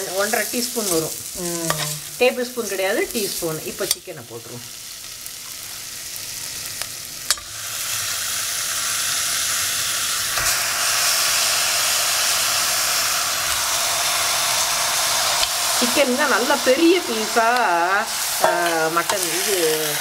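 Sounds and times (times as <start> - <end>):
chicken sizzling in pot: 0.0 - 20.0.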